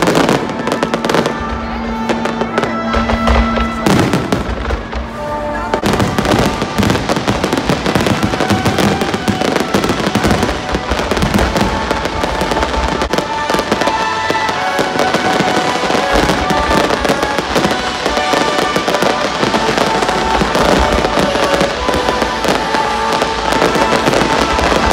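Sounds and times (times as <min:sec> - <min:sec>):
fireworks bursting and crackling: 0:00.0 - 0:24.9.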